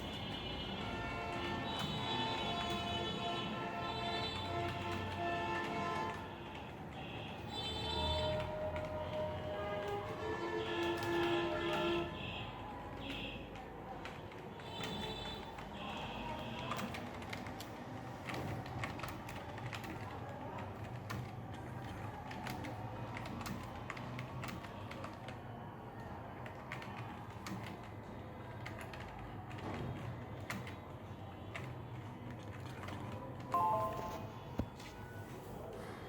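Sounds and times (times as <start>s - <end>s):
keyboard typing: 0.0s - 36.0s.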